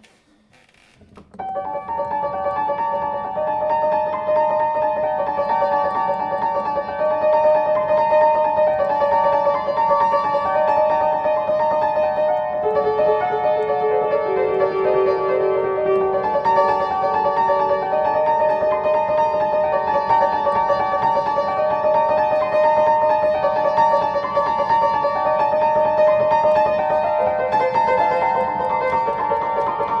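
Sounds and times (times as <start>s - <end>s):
piano piece: 1.0s - 30.0s.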